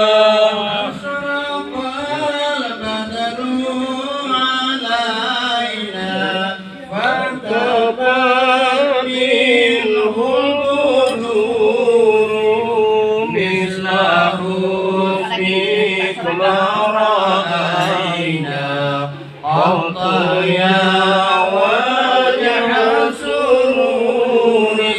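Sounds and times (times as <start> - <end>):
melodic religious chanting: 0.0 - 24.9.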